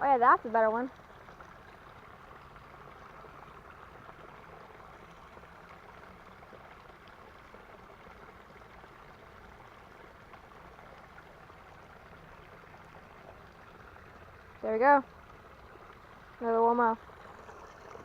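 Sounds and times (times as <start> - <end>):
creek water trickling: 0.0 - 18.0.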